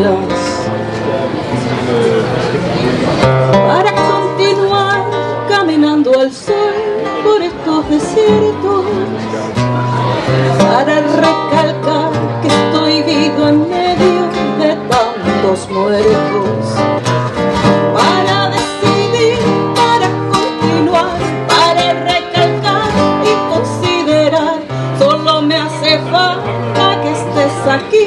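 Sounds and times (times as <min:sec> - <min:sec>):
woman singing: 0:00.0 - 0:00.7, 0:03.6 - 0:09.3, 0:10.6 - 0:16.9, 0:17.6 - 0:28.0
acoustic guitar playing: 0:00.0 - 0:28.0.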